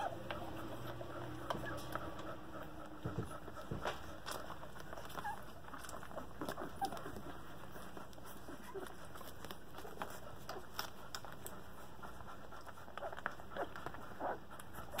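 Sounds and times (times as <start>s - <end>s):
puppies suckling: 0.0s - 15.0s
puppy squeaks and grunts: 0.0s - 15.0s.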